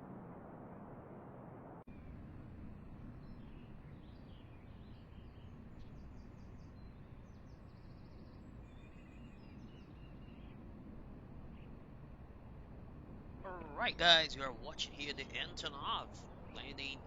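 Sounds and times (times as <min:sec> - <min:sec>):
low outdoor rumble: 0:00.0 - 0:17.0
small birds chirping: 0:01.9 - 0:17.0.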